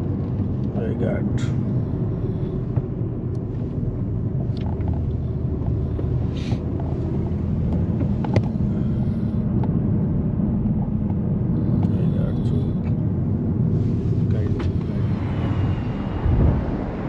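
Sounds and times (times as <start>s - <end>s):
car cabin engine and road noise: 0.0s - 17.0s.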